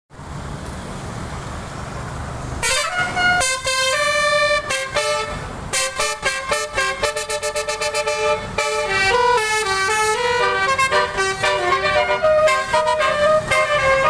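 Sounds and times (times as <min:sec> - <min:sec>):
low engine rumble: 0:00.1 - 0:14.0
multi-tone air horn melody: 0:02.6 - 0:14.0.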